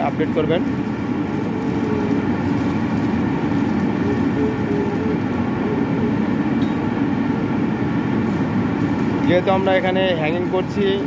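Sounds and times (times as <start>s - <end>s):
machinery running with low hum: 0.0s - 11.0s.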